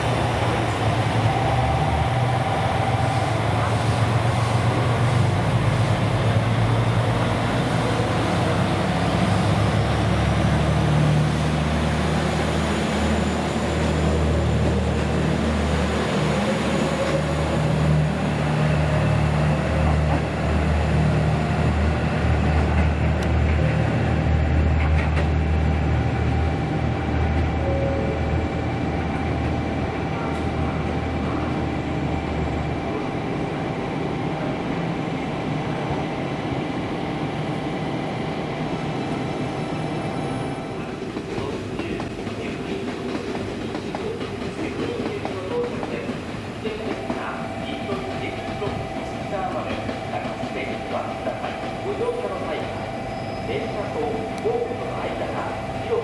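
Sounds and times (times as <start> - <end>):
train low hum: 0.0 - 56.0.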